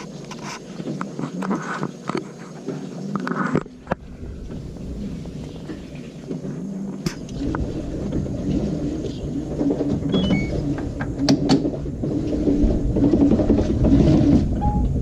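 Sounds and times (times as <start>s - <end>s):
washing machine churning: 0.0s - 15.0s.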